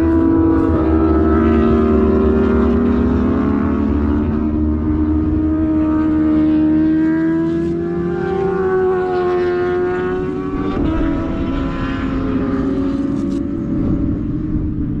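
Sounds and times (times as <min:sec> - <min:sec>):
motorcycle engine at high revs: 0:00.0 - 0:15.0
wind and road noise: 0:00.0 - 0:15.0.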